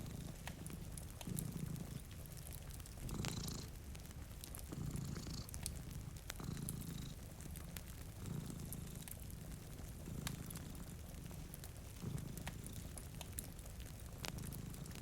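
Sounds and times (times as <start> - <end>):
cat purring: 0.0 - 15.0
wood fire crackling: 0.0 - 15.0.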